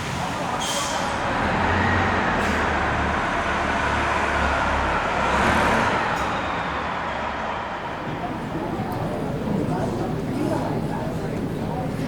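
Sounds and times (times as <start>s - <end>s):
buses idling: 0.0s - 12.0s.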